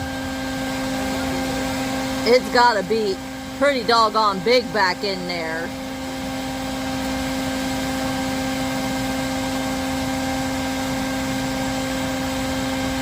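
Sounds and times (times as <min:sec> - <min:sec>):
steady droning hum: 0:00.0 - 0:13.0.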